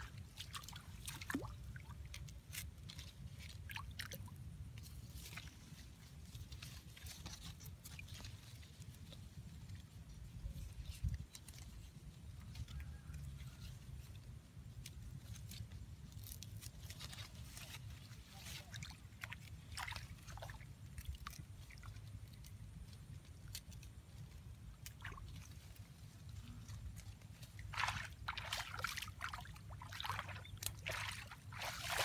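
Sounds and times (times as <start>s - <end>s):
leaves and twigs rustling: 0.0s - 3.9s, 4.8s - 32.0s.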